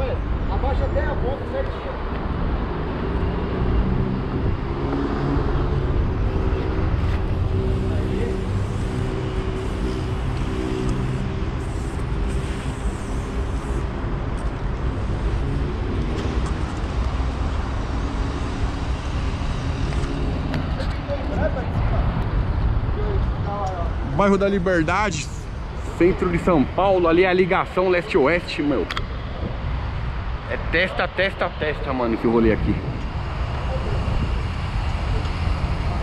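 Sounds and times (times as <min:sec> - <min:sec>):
city road traffic: 0:00.0 - 0:36.0.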